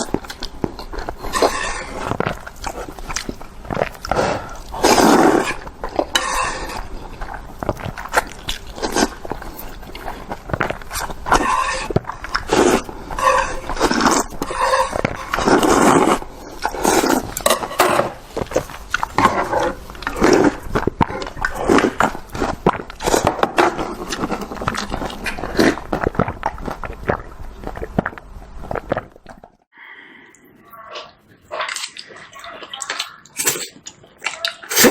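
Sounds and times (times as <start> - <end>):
noodle slurping: 0.0 - 29.2, 31.5 - 34.9
wet chewing: 0.0 - 29.6, 30.3 - 34.9.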